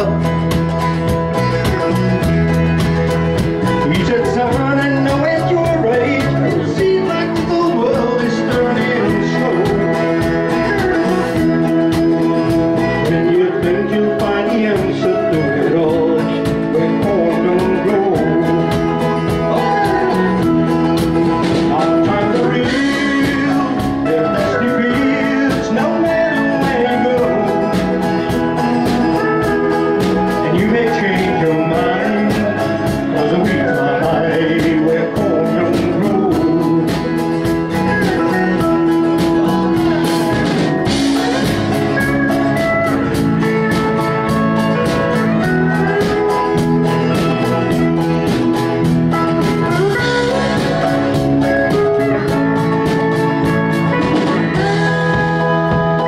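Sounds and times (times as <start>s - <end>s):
live country band playing: 0.0s - 56.0s
person singing: 3.0s - 56.0s.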